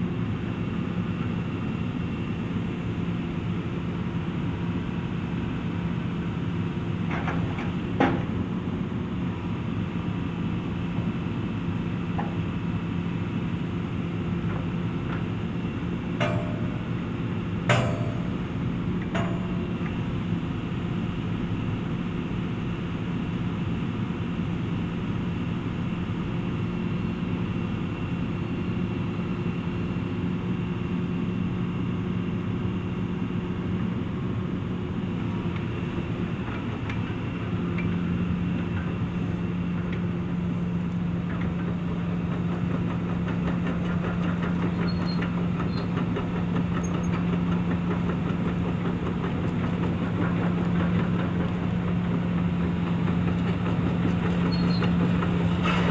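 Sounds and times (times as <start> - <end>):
excavator diesel engine running: 0.0 - 30.4, 34.2 - 55.9.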